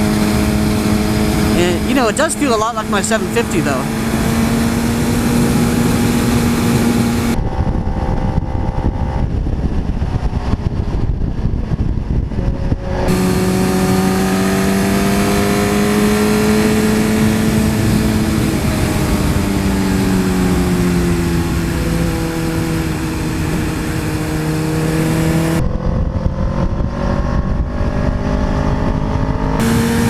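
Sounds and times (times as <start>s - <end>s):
motorcycle engine running: 0.0s - 1.9s, 3.8s - 30.0s
heavy wind noise: 0.0s - 30.0s.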